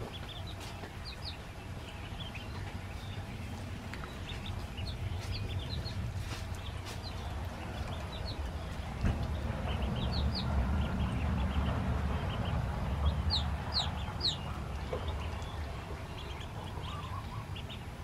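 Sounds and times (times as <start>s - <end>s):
ducklings peeping: 0.0s - 18.0s
low rumble: 0.4s - 17.6s.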